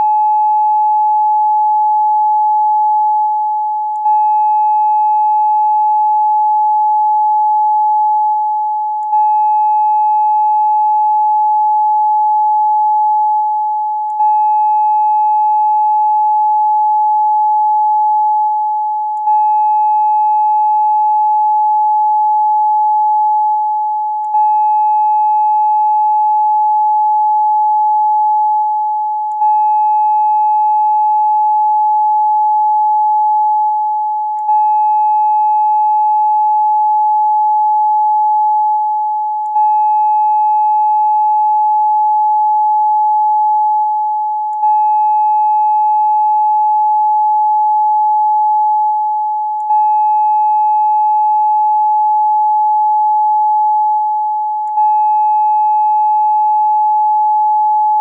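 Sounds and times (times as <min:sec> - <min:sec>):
steady sine tone: 0:00.0 - 0:58.0.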